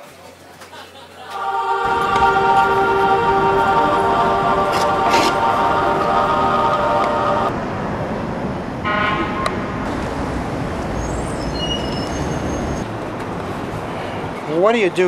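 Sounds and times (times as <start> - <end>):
city street traffic: 0.7 - 15.0.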